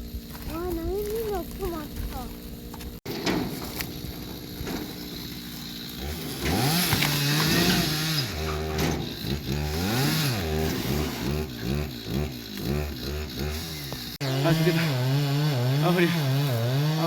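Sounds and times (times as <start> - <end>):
chainsaw cutting logs: 0.0 - 17.0.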